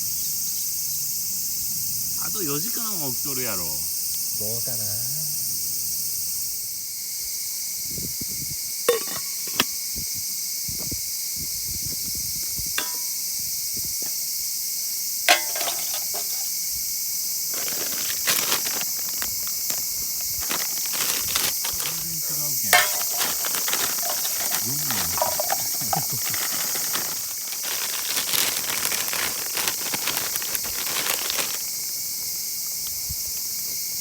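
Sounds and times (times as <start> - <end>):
crickets and insects chirring: 0.0 - 34.0.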